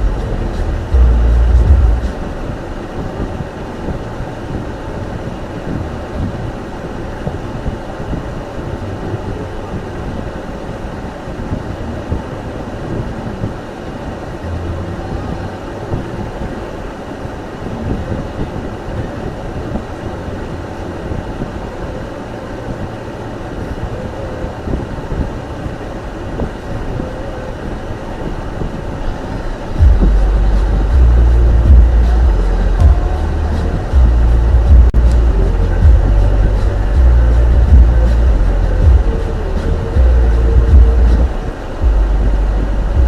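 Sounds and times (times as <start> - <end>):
car driving on snowy road: 0.0 - 43.0.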